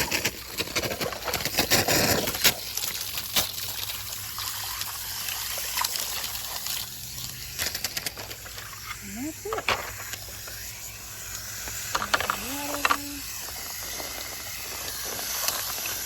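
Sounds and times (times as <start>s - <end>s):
hose spraying water: 0.0s - 16.0s.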